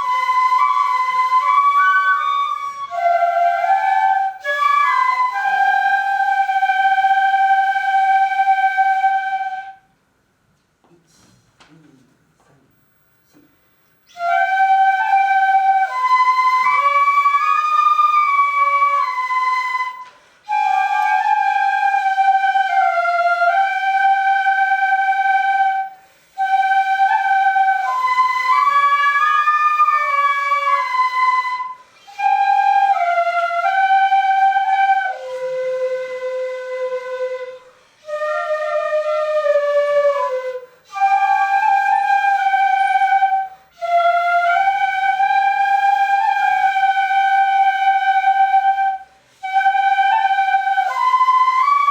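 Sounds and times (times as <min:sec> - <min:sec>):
bamboo flute melody: 0:00.0 - 0:10.0, 0:14.0 - 0:51.9.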